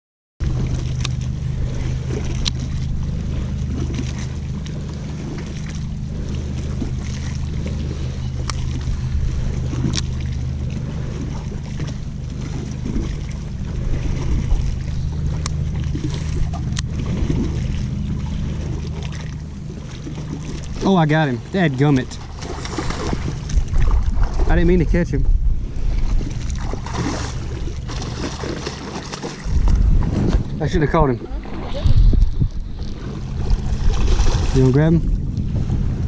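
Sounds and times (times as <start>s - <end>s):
boat motor humming: 0.4s - 36.0s.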